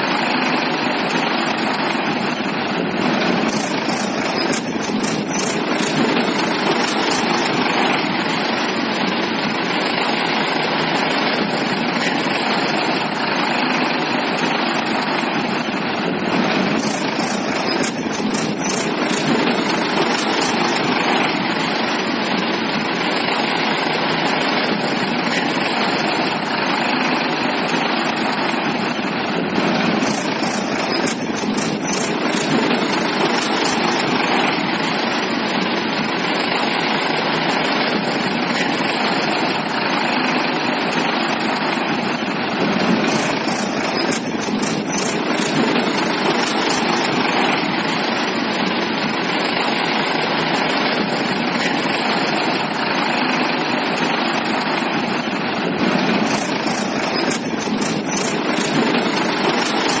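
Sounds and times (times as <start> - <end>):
steady engine drone: 0.0 - 60.0.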